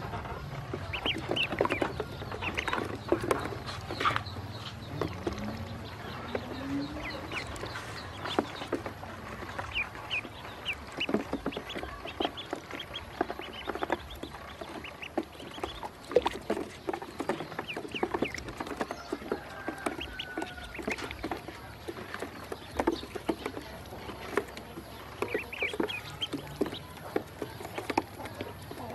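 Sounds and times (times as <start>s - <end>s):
ducklings peeping: 0.0s - 28.9s.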